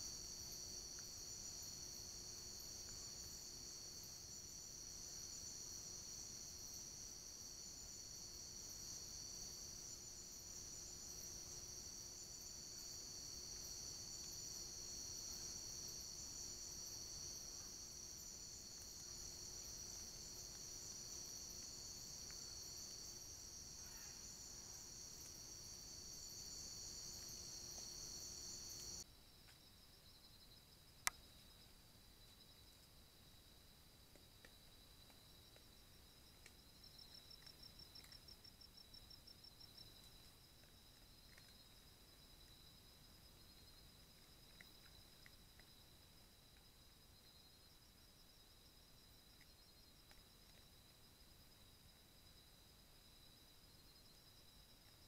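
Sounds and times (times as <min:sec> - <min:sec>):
crickets trilling: 0:00.0 - 0:29.1, 0:34.1 - 0:55.0.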